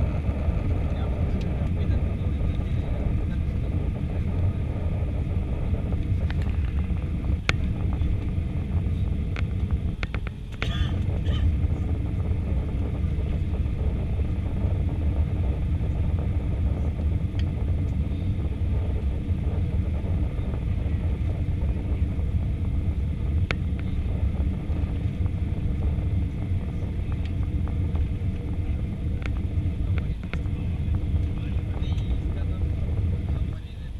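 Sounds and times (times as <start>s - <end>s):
engine and airflow rumble: 0.0s - 33.9s.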